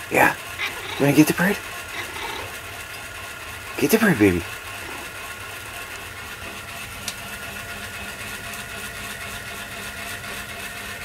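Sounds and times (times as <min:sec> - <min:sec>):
low mechanical motor hum: 0:00.0 - 0:11.0.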